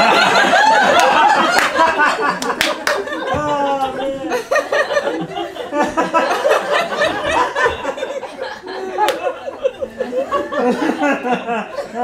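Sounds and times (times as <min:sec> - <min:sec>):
audience laughing: 0:00.0 - 0:12.0
voices: 0:00.2 - 0:12.0.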